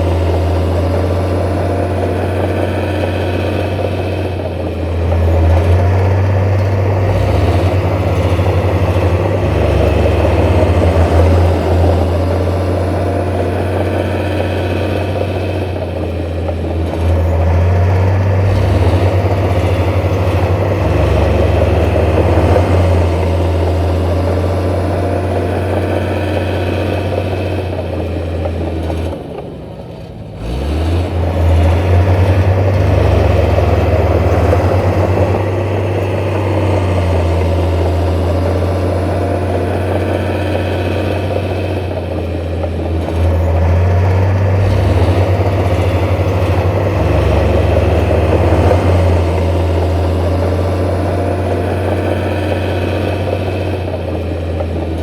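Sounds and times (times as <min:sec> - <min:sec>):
heavy machinery diesel engine running: 0:00.0 - 0:55.0.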